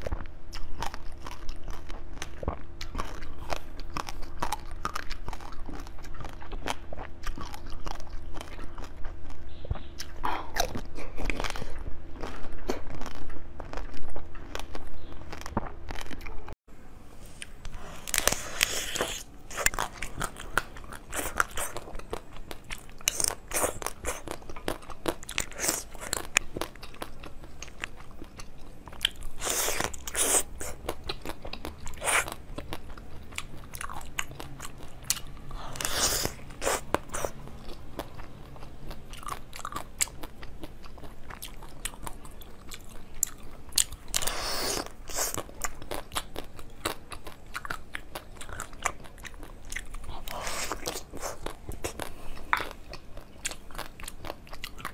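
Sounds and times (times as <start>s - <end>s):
biting and chewing crunchy shell: 0.0s - 16.6s, 17.3s - 54.9s.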